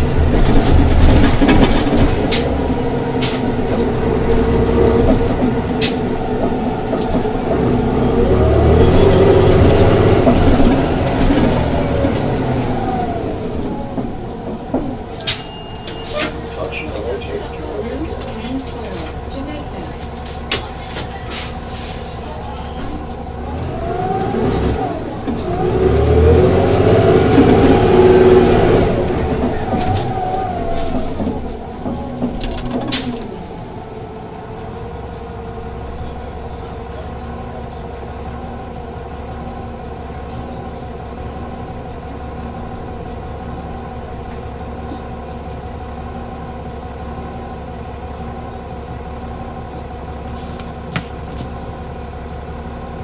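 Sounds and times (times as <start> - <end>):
bus engine: 0.0 - 53.0
bus engine idling: 0.0 - 53.0.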